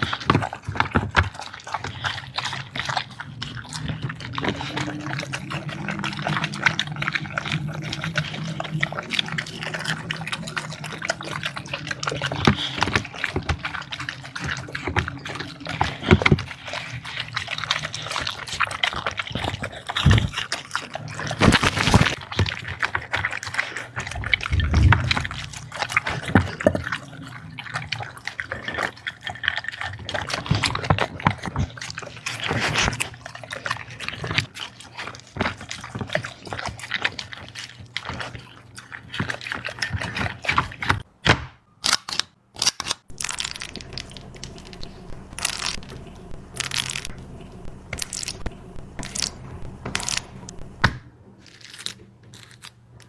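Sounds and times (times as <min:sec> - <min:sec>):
dog eating wet food: 0:00.0 - 0:41.1, 0:43.1 - 0:52.9.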